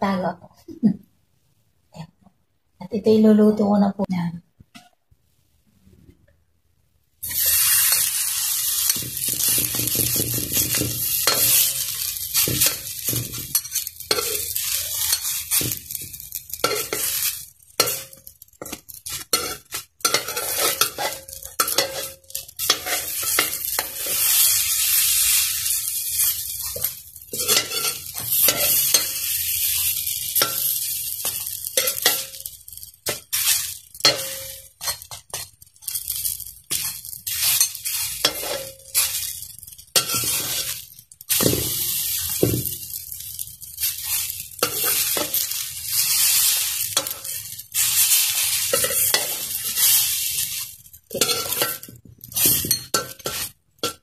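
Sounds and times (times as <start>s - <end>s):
dough sizzling in a wok: 7.2s - 54.0s
metal spoons scraping a pan: 7.2s - 54.0s.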